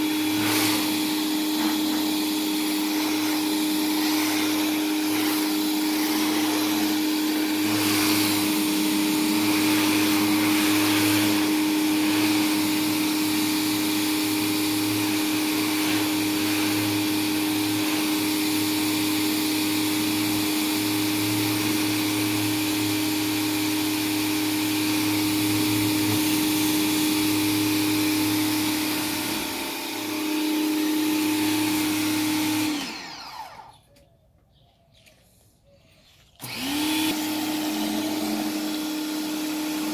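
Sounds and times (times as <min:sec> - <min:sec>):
water spraying against siding: 0:00.0 - 0:33.7, 0:36.3 - 0:39.9
pressure washer pump humming: 0:00.0 - 0:33.9, 0:36.3 - 0:39.9.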